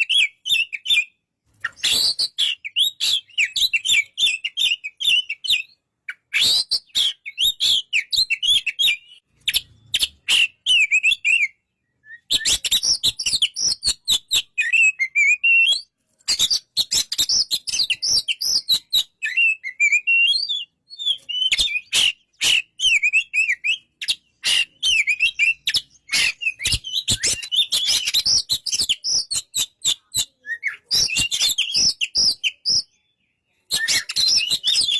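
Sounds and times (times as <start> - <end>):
bird singing chirps and whistles: 0.0 - 34.9.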